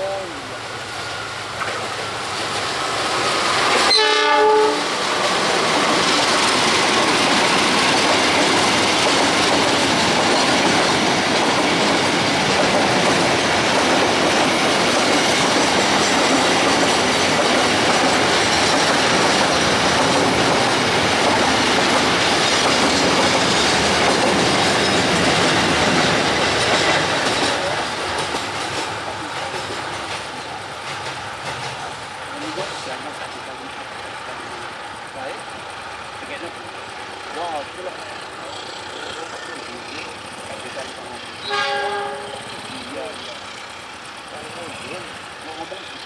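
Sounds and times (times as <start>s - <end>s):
train wheels clattering: 0.0s - 46.0s.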